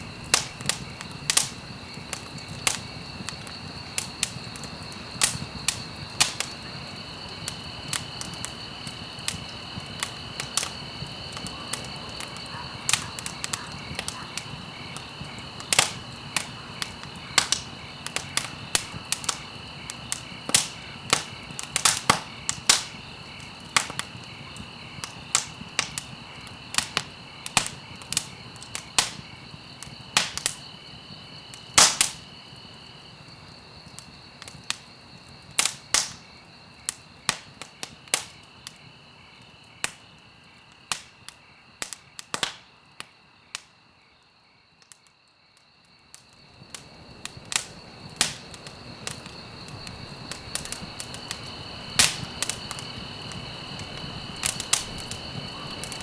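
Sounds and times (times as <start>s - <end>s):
wood fire popping and snapping: 0.0s - 43.8s, 45.9s - 56.0s.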